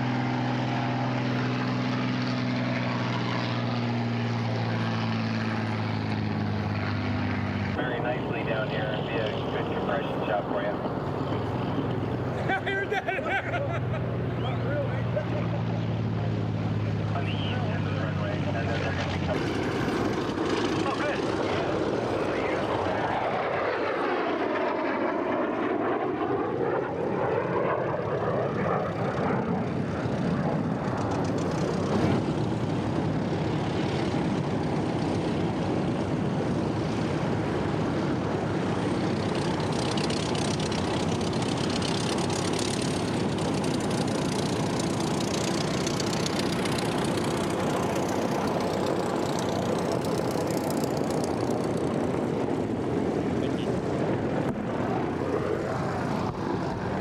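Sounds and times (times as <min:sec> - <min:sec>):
propeller aircraft engine drone: 0:00.0 - 0:57.0.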